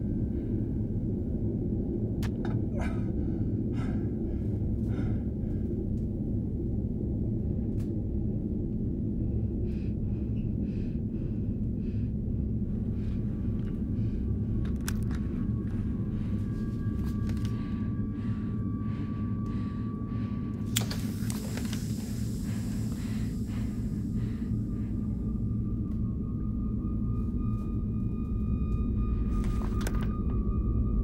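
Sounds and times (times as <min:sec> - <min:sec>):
low rumbling drone: 0:00.0 - 0:31.0.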